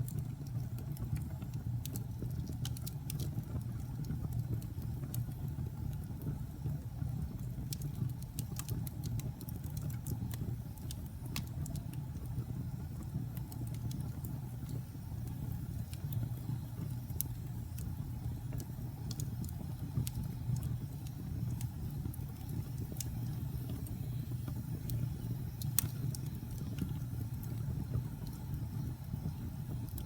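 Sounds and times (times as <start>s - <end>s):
low fire rumble: 0.0s - 30.0s
wood fire popping and snapping: 0.0s - 30.0s.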